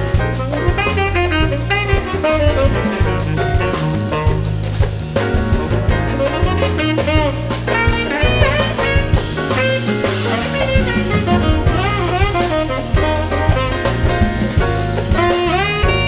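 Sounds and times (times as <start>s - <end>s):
drum kit: 0.0s - 16.0s
horn backing: 0.0s - 16.0s
saxophone solo: 0.0s - 16.0s
walking bass: 0.0s - 16.0s.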